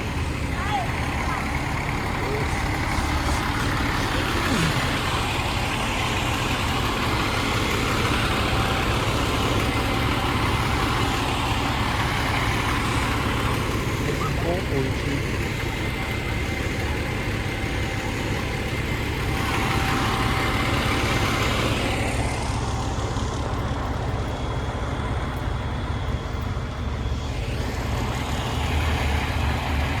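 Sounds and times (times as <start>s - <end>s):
fire truck engine running: 0.0s - 30.0s
road traffic noise: 0.0s - 30.0s.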